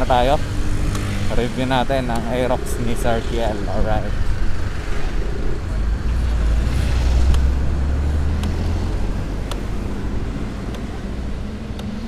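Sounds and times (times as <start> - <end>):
scooter engine and road noise: 0.0 - 12.0
wind rumble on microphone: 0.0 - 12.0.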